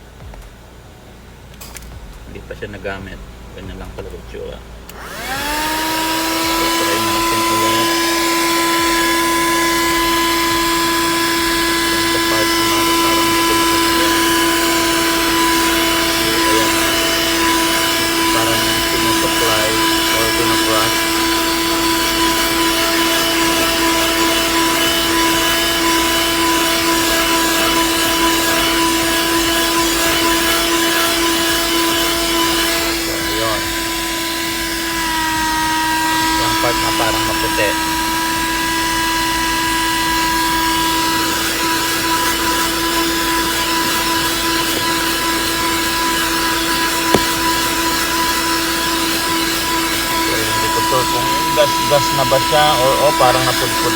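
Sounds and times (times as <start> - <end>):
vacuum cleaner running: 4.8 - 53.9.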